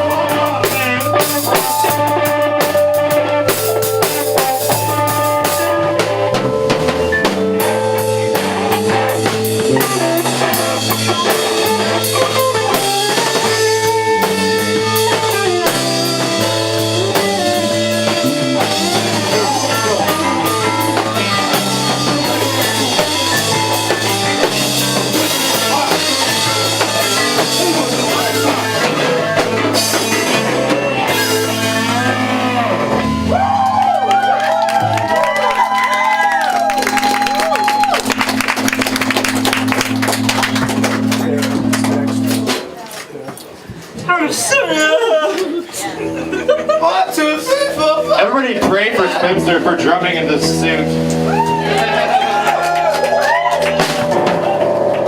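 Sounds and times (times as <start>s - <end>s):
bass line: 0.0s - 42.8s, 45.8s - 55.0s
drum kit beat: 0.0s - 42.8s, 45.8s - 55.0s
electric guitar: 0.0s - 55.0s.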